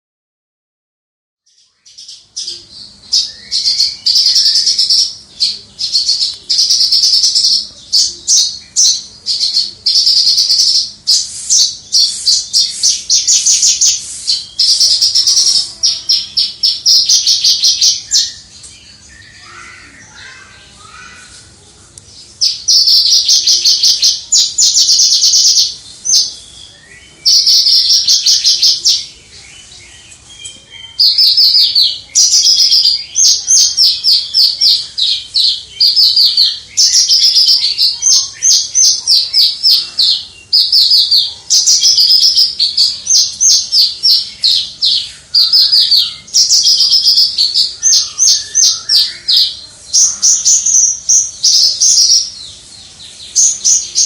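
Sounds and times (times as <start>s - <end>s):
lark singing trilled phrases: 1.6s - 21.3s, 22.4s - 52.4s.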